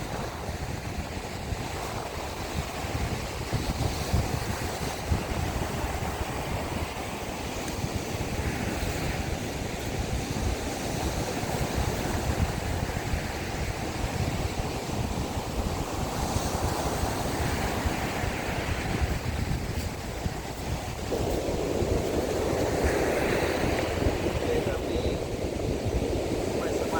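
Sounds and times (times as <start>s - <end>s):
sea waves breaking: 0.0s - 26.9s
wind buffeting microphone: 0.0s - 26.9s.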